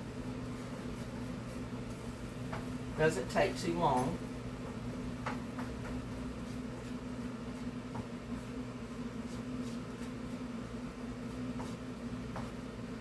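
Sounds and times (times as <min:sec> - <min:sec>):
range hood fan humming: 0:00.0 - 0:13.0.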